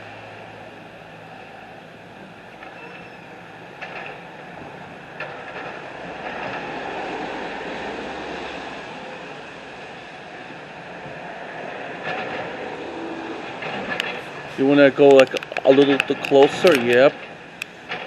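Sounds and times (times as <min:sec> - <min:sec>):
heavy vehicle engines rumbling: 0:00.0 - 0:18.0
noise wash: 0:00.0 - 0:18.0.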